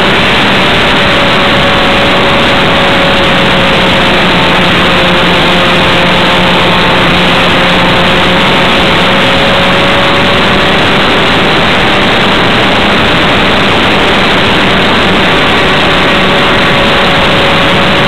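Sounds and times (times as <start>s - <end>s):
model airplane engine and propeller: 0.0s - 18.0s
wind noise rushing: 0.0s - 18.0s.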